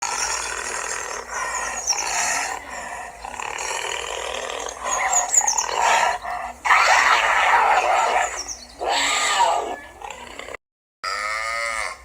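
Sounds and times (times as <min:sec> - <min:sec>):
animal wavering cries: 0:00.0 - 0:12.0.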